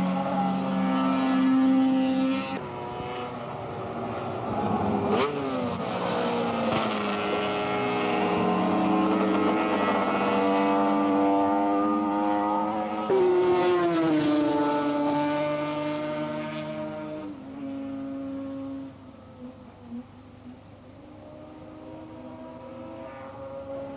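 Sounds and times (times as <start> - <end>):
racing motorcycles engines: 0.0 - 23.9.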